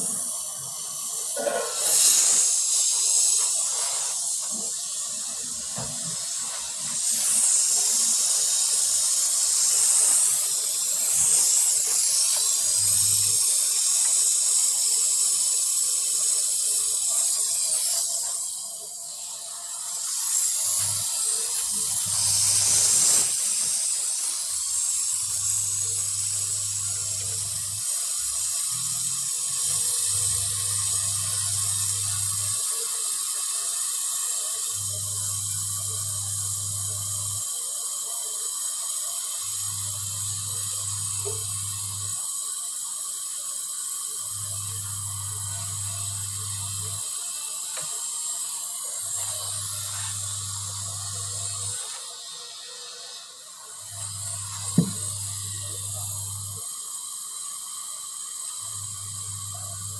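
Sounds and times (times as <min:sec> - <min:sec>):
gas torch hissing: 0:00.0 - 0:59.9.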